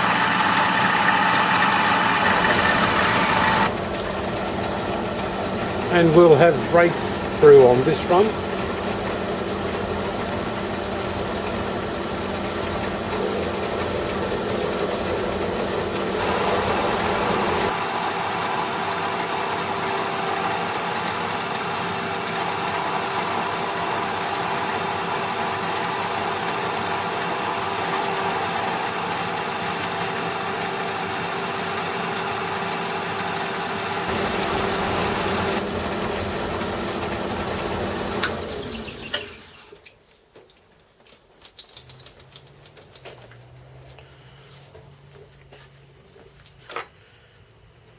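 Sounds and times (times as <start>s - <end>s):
metal lathe running: 0.0s - 39.6s.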